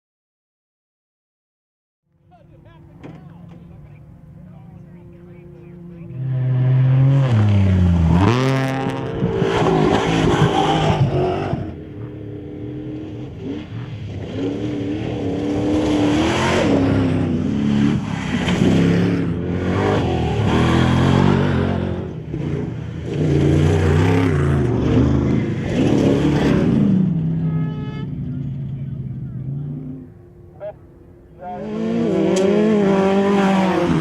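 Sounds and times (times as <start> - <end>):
racing engines revving: 2.3 - 34.0.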